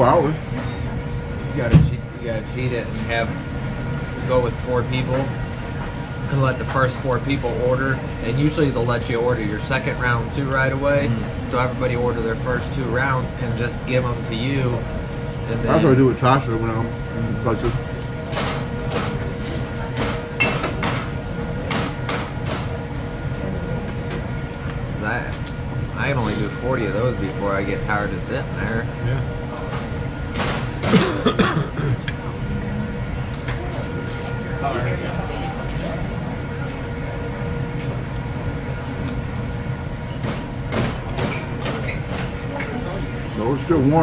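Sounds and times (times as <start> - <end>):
room hum: 0.0 - 44.0.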